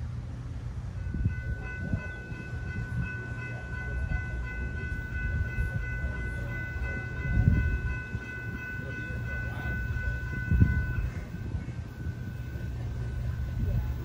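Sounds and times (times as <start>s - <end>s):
crossing warning bells ringing: 0.0s - 14.0s.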